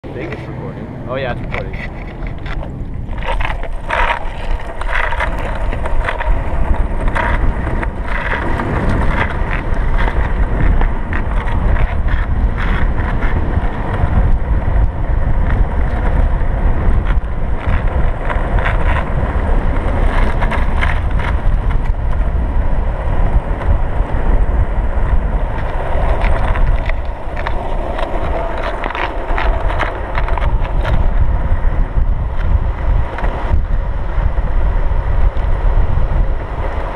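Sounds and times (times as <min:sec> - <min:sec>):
skateboard wheels rolling on asphalt: 0:00.0 - 0:36.9
wind on microphone: 0:00.0 - 0:36.9.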